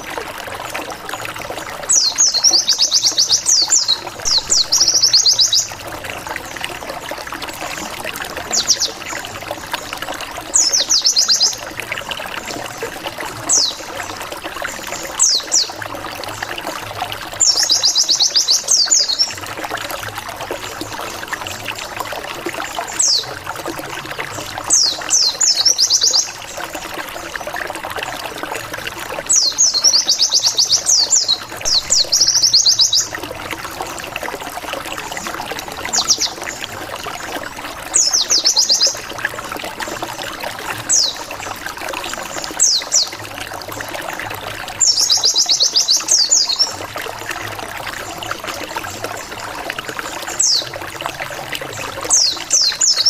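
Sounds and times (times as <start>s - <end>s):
trickling background noise: 0.0s - 53.0s.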